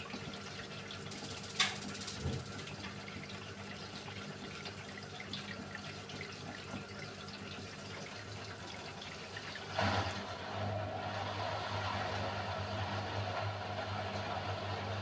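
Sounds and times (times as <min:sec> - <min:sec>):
washing machine low hum: 0:00.1 - 0:05.2, 0:07.9 - 0:15.0.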